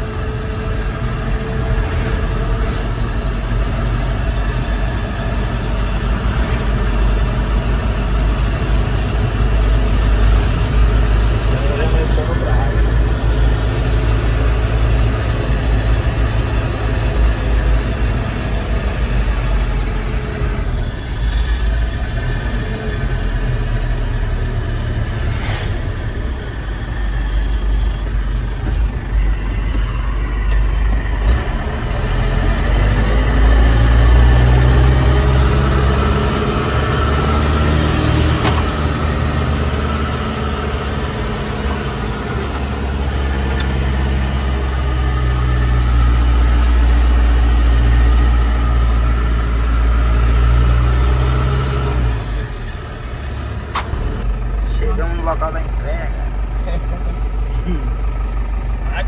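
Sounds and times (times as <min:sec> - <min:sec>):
truck engine and road noise: 0:00.0 - 0:59.0.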